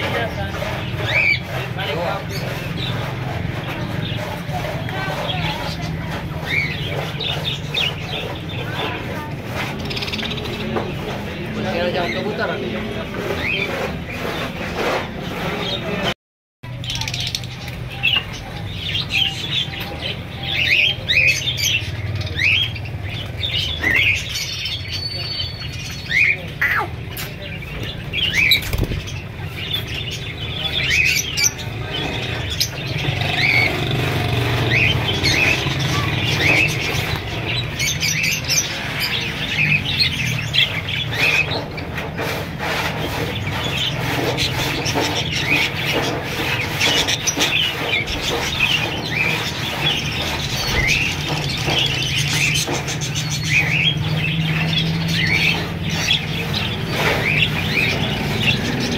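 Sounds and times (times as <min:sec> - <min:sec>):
caged birds chirping: 0:00.0 - 0:58.9.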